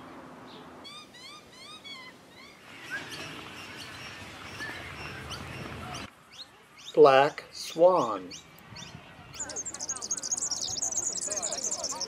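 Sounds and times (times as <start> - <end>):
outdoor background noise: 0.0 - 12.0
wild birds chirping: 0.0 - 12.0.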